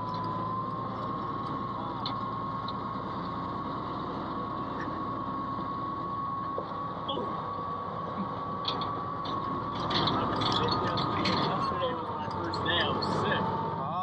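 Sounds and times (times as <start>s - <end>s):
bulldozer engine rumble: 0.0s - 14.0s
tracks clanking and squeaking: 0.0s - 14.0s.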